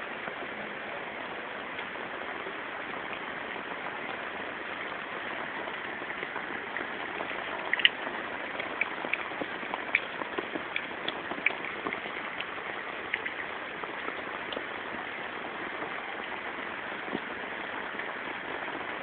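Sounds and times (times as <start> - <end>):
rain falling steadily: 0.0 - 19.0
raindrop ticks: 0.0 - 19.0.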